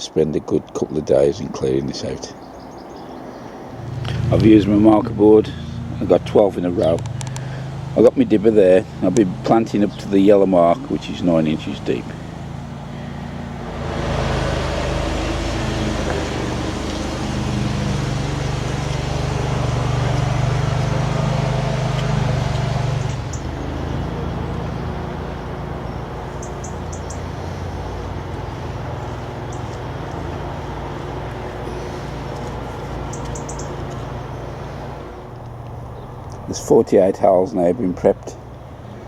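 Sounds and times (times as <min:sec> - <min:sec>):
motor vehicle engine hum: 0:01.7 - 0:39.0.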